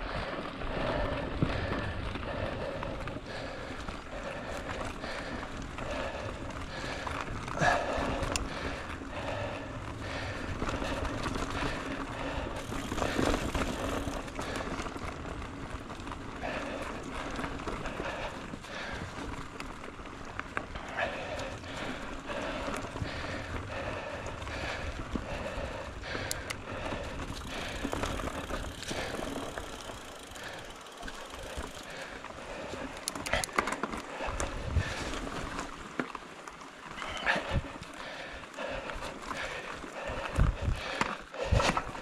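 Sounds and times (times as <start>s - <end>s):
rumbling tyre noise: 0.0s - 42.0s
bike rattling clicks: 0.1s - 42.0s.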